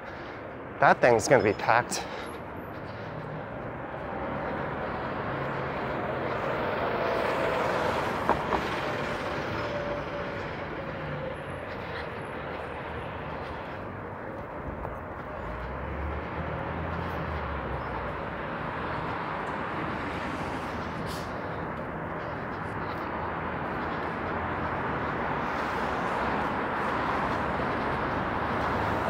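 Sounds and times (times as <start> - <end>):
city street traffic: 0.0 - 29.0.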